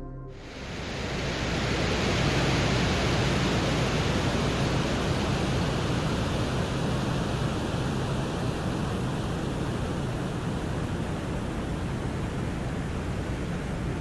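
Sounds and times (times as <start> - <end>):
wind noise hiss: 0.4 - 14.0.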